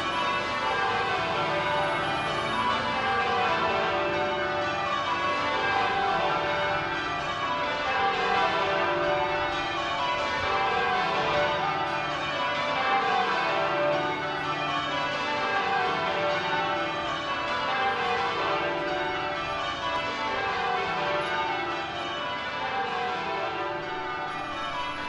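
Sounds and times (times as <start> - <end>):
church bells ringing: 0.0 - 25.0.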